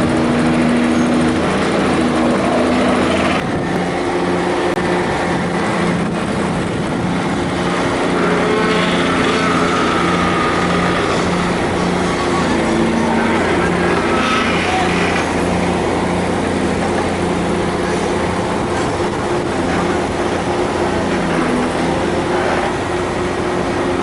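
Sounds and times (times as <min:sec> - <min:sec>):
high machine whine: 0:00.0 - 0:24.0
pile driver mechanical drone: 0:00.0 - 0:24.0.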